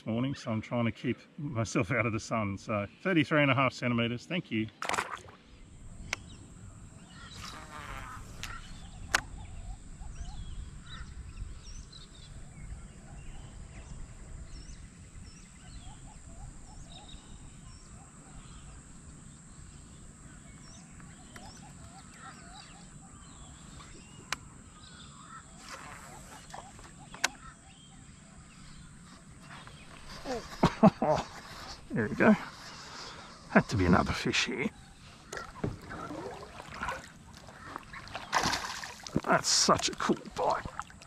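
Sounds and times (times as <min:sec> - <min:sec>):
birds chirping: 0:00.2 - 0:41.0.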